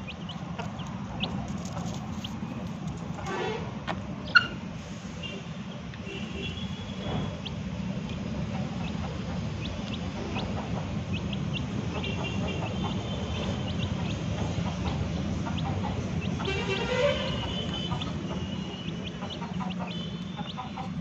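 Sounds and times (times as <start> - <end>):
chicks peeping: 0.0 - 4.6, 5.2 - 21.0.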